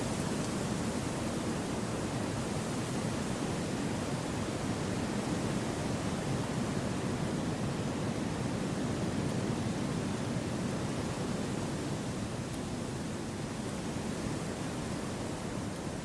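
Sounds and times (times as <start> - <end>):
gentle wind through forest: 0.0 - 16.0.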